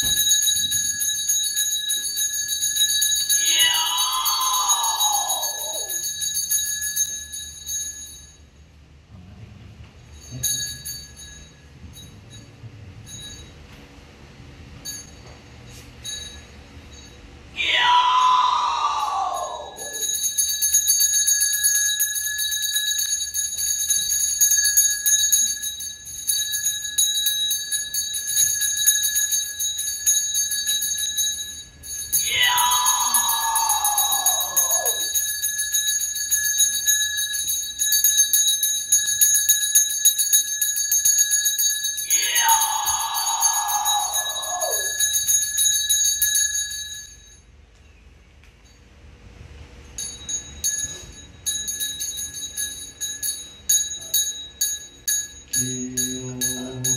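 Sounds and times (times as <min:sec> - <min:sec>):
hand bell jingling: 0:00.0 - 0:08.6, 0:10.0 - 0:13.6, 0:14.8 - 0:17.2, 0:19.4 - 0:47.5, 0:49.8 - 0:56.9.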